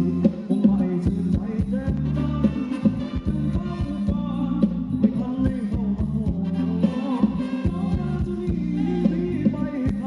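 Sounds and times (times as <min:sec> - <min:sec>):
live band playing dance music: 0:00.0 - 0:10.0
steady drum beat: 0:00.0 - 0:10.0.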